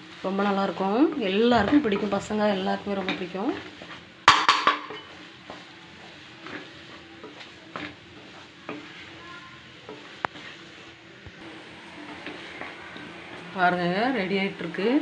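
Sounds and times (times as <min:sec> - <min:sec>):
faint sizzling: 0:00.0 - 0:15.0
spatula scraping pan: 0:00.0 - 0:15.0.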